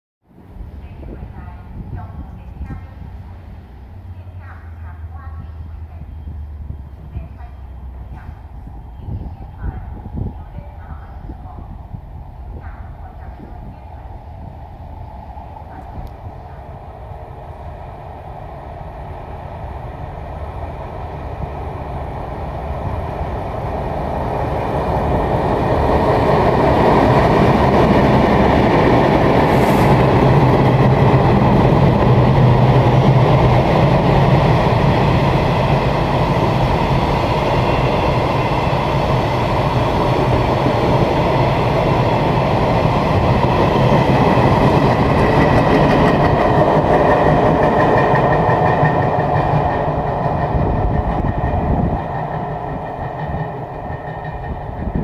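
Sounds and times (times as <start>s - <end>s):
diesel locomotive engines humming: 0.4s - 55.0s.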